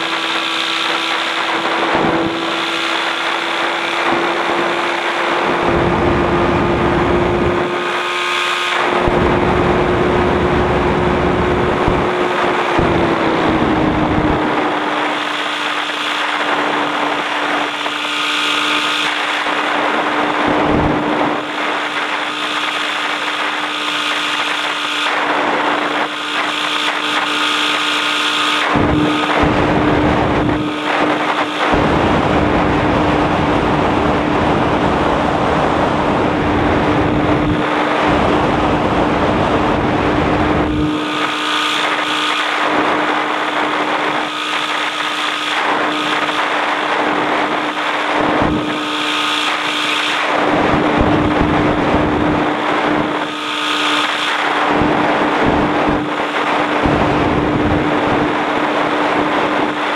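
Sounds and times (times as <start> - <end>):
wind buffeting microphone: 0.0 - 26.5, 28.6 - 48.9, 49.6 - 53.3, 54.4 - 59.9
light aircraft engine droning: 0.0 - 59.9.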